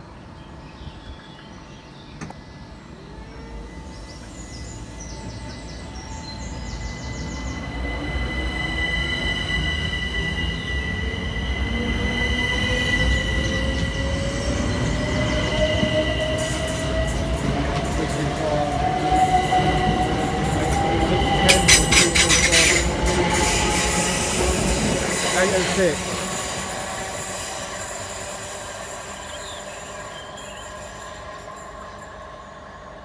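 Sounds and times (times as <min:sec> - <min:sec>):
train rumble: 0:00.0 - 0:33.0
high-pitched squeal: 0:03.5 - 0:32.6.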